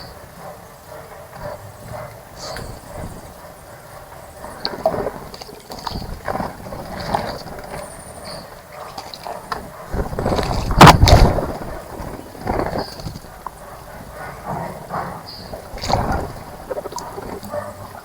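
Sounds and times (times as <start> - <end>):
birds splashing in water: 1.4 - 18.0.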